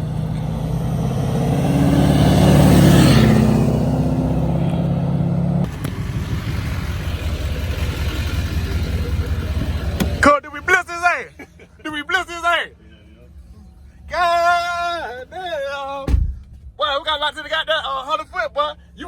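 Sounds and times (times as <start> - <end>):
diesel truck engine accelerating: 0.0 - 19.0.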